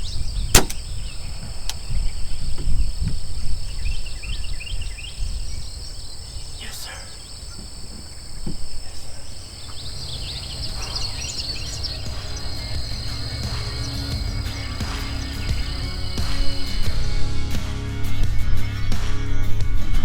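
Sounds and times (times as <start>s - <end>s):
small birds chirping: 0.0s - 17.4s
wind rumble on microphone: 0.0s - 20.0s
high insect-like drone: 1.1s - 17.3s.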